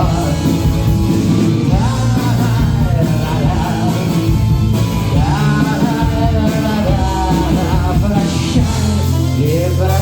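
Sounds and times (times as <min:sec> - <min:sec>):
person singing: 0:00.0 - 0:10.0
rock band playing: 0:00.0 - 0:10.0.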